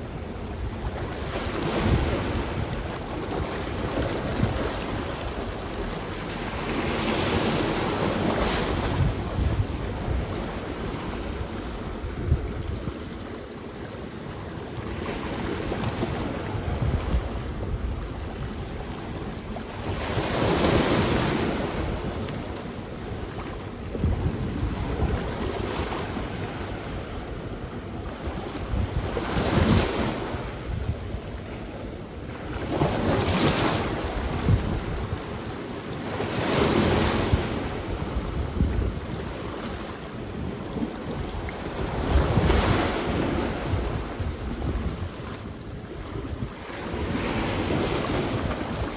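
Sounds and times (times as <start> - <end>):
sea waves washing onto beach: 0.0 - 48.9
wind buffeting microphone: 0.0 - 48.9.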